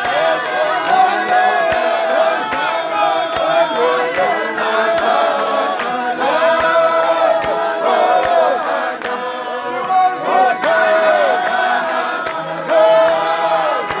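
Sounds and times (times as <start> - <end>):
hand claps in unison: 0.0 - 14.0
men singing a cappella: 0.0 - 14.0.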